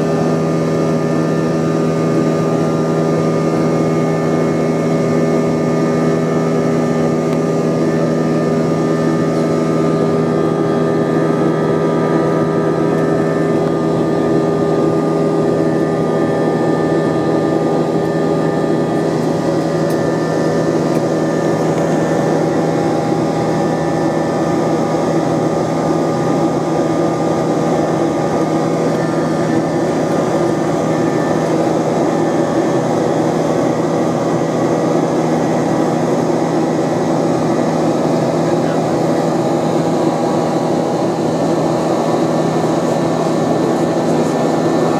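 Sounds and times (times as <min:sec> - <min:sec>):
jet engine drone: 0:00.0 - 0:44.9.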